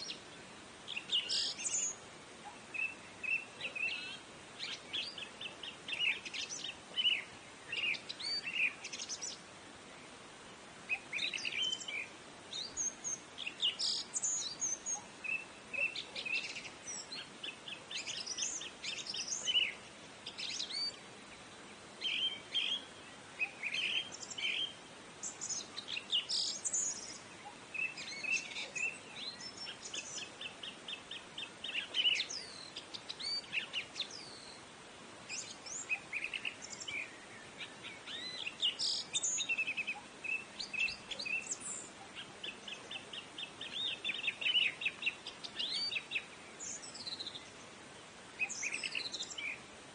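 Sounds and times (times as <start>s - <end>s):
songbirds chirping and twittering: 0.0s - 49.9s.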